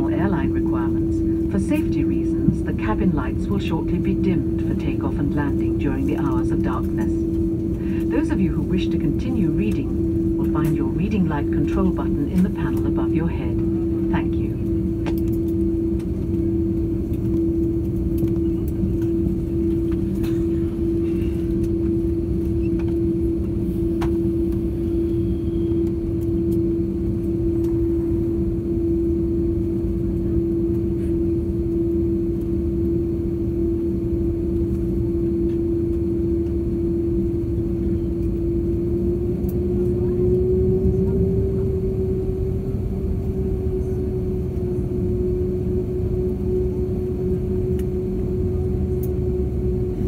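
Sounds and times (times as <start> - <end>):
jet engines rumbling in cabin: 0.0 - 50.0.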